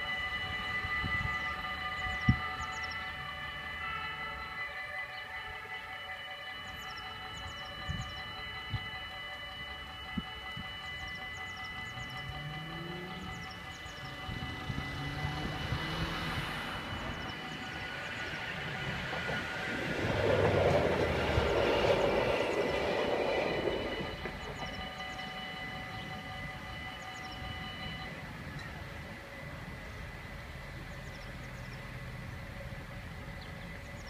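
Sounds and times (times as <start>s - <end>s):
level crossing bells ringing: 0.0s - 34.0s
passenger train running: 0.0s - 34.0s.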